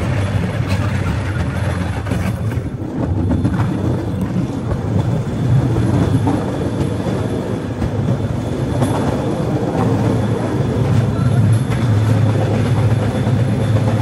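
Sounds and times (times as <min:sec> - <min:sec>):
steel wheels on track: 0:00.0 - 0:14.0
train motor rumbling: 0:00.0 - 0:14.0.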